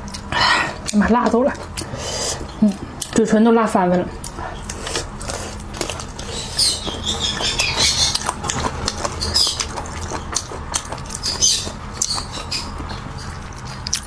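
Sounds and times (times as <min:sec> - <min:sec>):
wet chewing and smacking: 0:00.0 - 0:03.2, 0:04.2 - 0:14.0.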